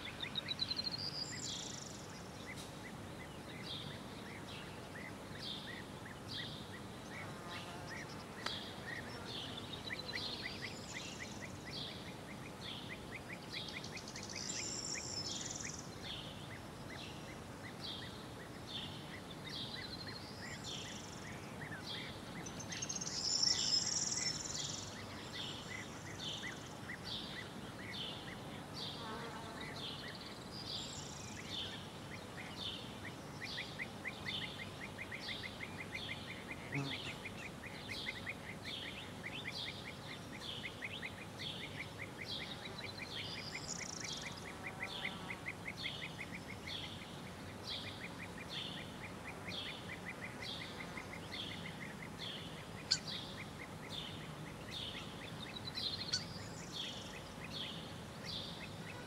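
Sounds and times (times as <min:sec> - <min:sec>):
light wind: 0:00.0 - 0:59.0
songbirds singing: 0:00.0 - 0:59.0.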